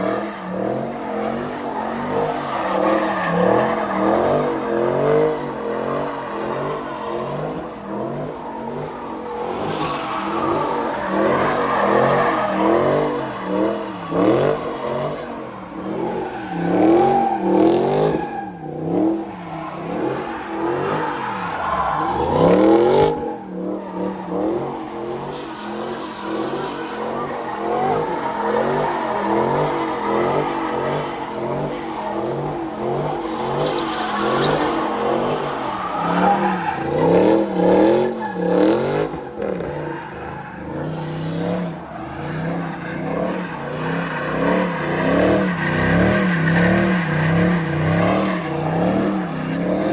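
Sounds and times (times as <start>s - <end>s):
car engines revving hard: 0.0s - 49.9s.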